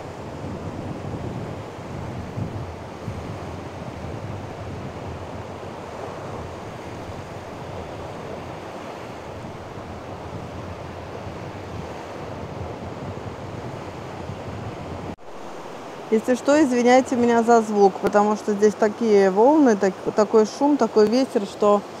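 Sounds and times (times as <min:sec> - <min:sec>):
sea waves washing onto shore: 0:00.0 - 0:22.0
wind buffeting microphone: 0:00.0 - 0:22.0.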